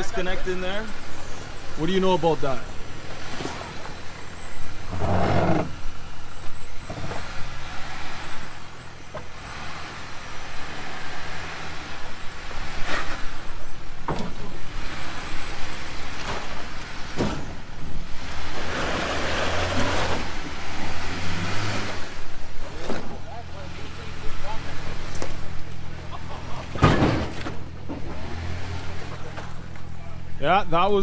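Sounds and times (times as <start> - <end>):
engine running low: 0.0 - 31.0.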